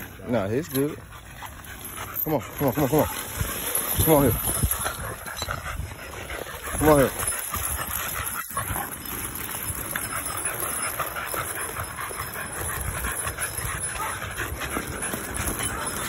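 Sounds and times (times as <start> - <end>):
chains dragging over concrete: 0.0 - 16.0
dogs panting: 0.0 - 16.0.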